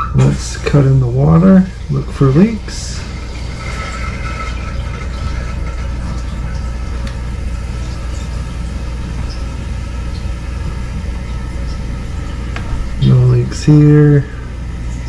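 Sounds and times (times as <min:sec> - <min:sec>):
low hum: 0:00.0 - 0:15.0
toilet tank filling with water: 0:00.0 - 0:15.0.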